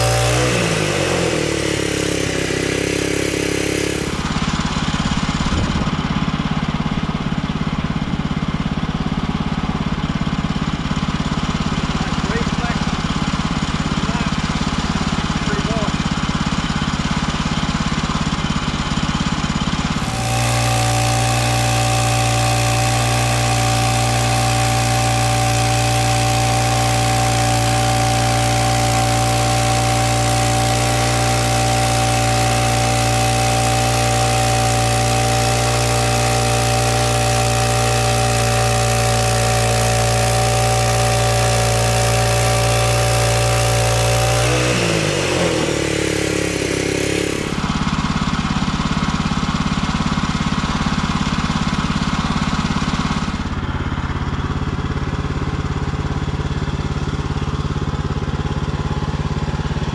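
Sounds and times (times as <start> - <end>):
sawmill gasoline engine running: 0.0 - 59.9.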